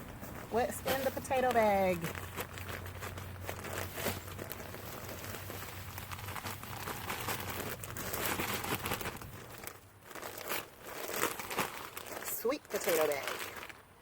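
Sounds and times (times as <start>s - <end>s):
grow bag and soil rustling: 0.0s - 14.0s.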